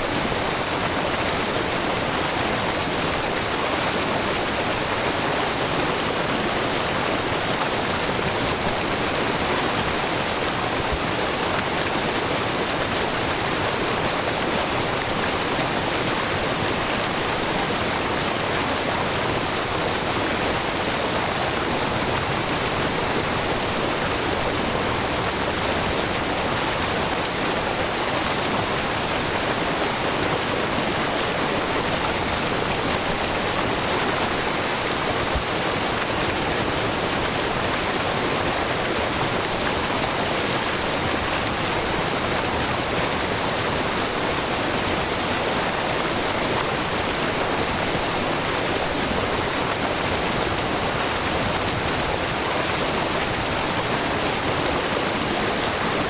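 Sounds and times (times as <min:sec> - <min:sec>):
waterfall rushing into a pool: 0:00.0 - 0:56.0.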